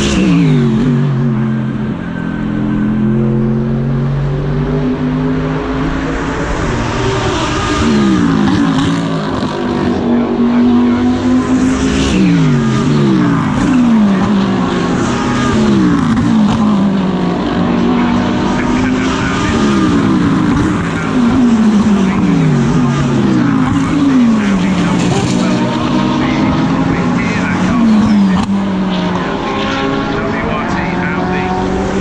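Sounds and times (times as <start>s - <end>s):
race car engine shifting gears: 0.0s - 32.0s.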